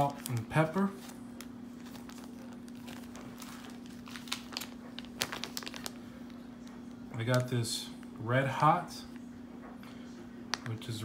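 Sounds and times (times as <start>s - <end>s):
plastic bags crinkling: 0.0s - 8.9s
steady low hum: 0.0s - 11.0s.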